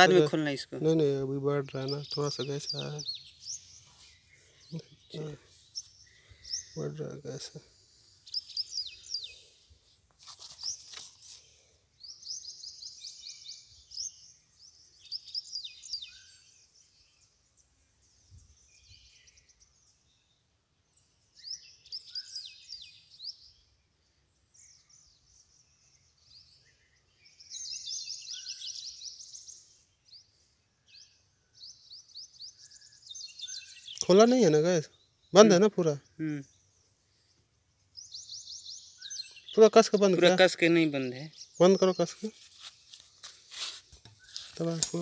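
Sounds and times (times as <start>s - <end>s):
birds chirping in trills: 0.0s - 45.0s.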